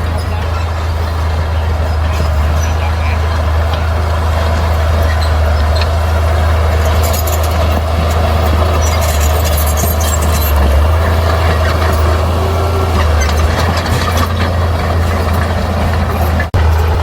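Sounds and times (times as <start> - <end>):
bulldozer diesel engine droning: 0.0 - 17.0
tracks and rocks clattering: 0.0 - 17.0.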